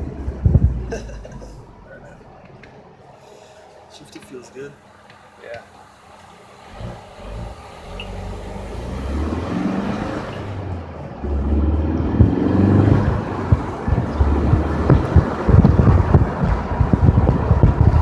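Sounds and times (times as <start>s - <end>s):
car engine accelerating: 0.0s - 2.6s, 5.8s - 18.0s.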